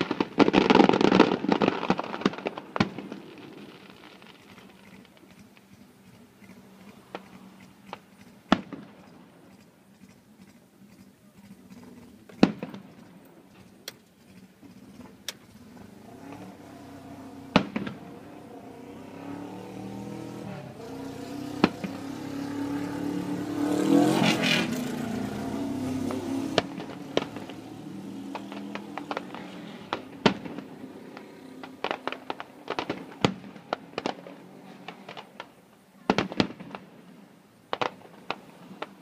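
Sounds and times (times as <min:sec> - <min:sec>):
firework shells bursting: 0:00.0 - 0:19.2, 0:24.1 - 0:39.0
vehicle engine: 0:00.0 - 0:35.5
faint firework crackles: 0:00.0 - 0:39.0.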